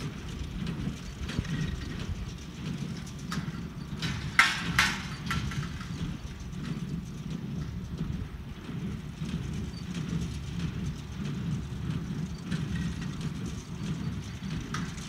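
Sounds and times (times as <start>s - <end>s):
metallic clanks from baler: 0.0s - 8.2s, 8.8s - 15.0s
tractor engine and machinery drone: 0.0s - 15.0s.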